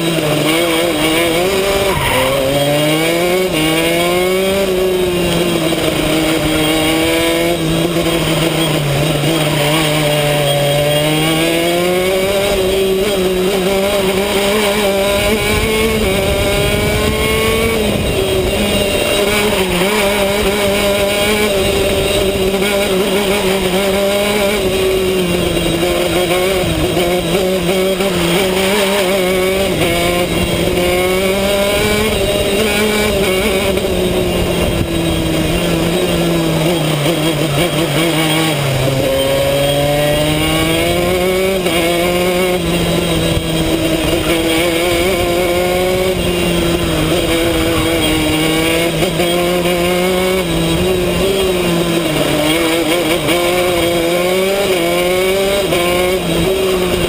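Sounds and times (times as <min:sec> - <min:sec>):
kart engine racing: 0:00.0 - 0:57.0.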